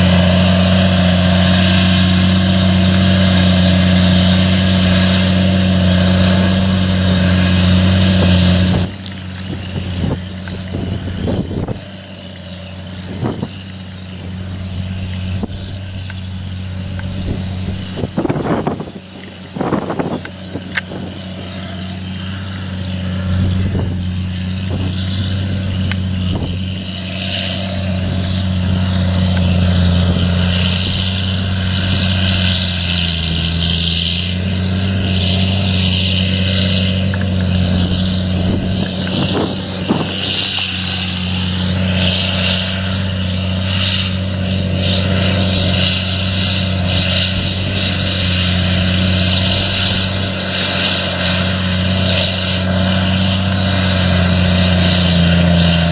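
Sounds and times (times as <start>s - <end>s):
motor droning: 0.0s - 55.9s.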